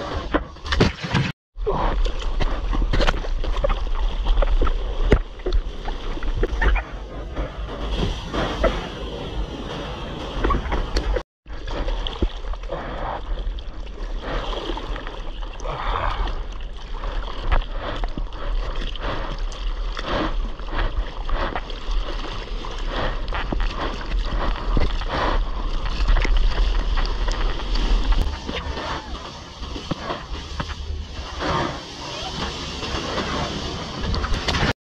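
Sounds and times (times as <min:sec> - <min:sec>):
seawater rushing and splashing: 0:01.8 - 0:34.8.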